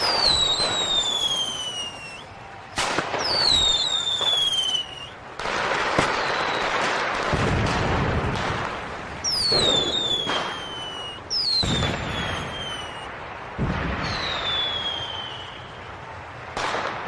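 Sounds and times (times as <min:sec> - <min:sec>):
falling firework whistle: 0:00.0 - 0:07.4, 0:09.2 - 0:17.0
fireworks bursting: 0:00.0 - 0:17.0.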